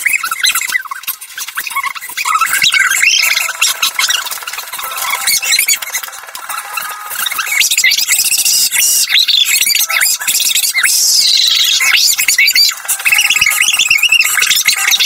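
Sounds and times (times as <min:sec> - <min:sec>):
sped-up voice chirps and squeals: 0:00.0 - 0:15.0.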